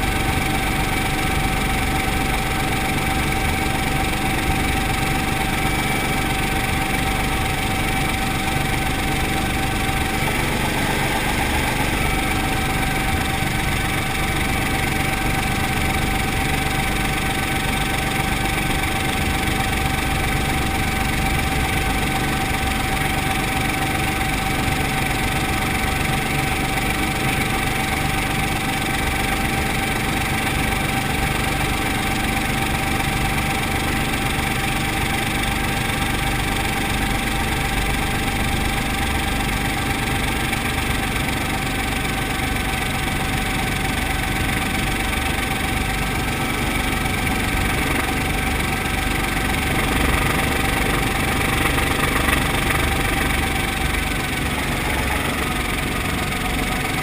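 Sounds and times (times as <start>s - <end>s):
constant whine: 0.0s - 57.0s
helicopter engine and rotor running: 0.0s - 57.0s.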